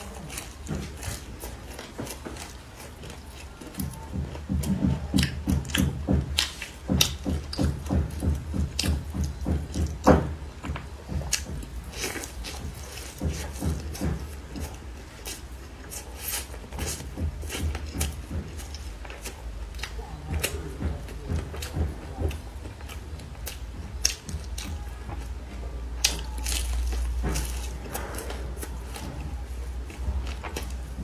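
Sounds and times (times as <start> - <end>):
crunchy chewing: 0.0 - 31.0.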